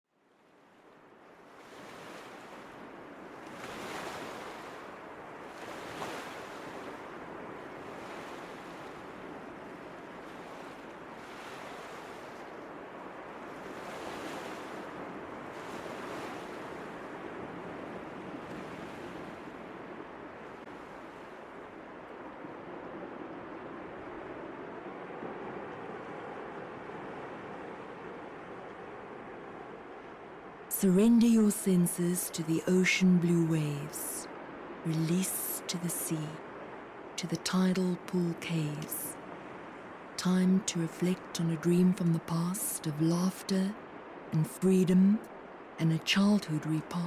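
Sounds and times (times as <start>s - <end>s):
ocean waves breaking: 0.3s - 47.0s.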